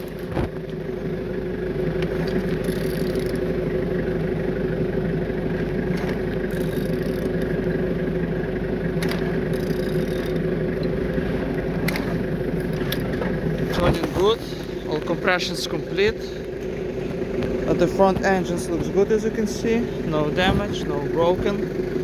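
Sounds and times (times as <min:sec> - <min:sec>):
engine turning over: 0:00.0 - 0:22.0.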